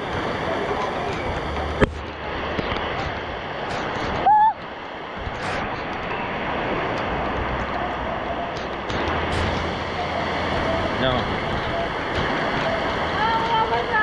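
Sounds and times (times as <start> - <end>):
steady rain pouring: 0.0 - 14.0.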